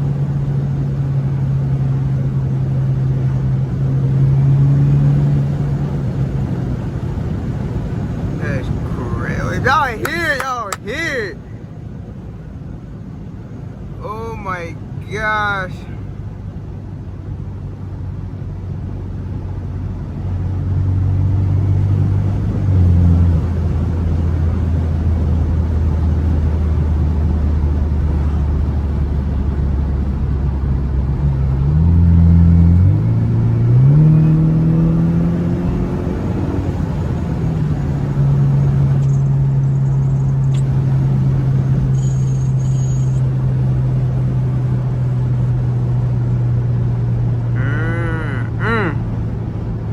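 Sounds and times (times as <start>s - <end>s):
car engine droning: 0.0s - 49.9s.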